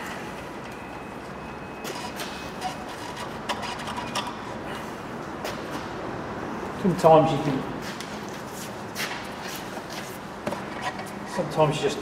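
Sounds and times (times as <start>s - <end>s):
workshop background noise: 0.0s - 12.0s.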